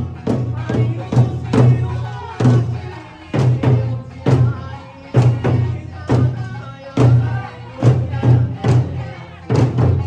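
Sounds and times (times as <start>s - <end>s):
large drums struck hard: 0.0s - 10.0s
person singing: 0.0s - 10.0s.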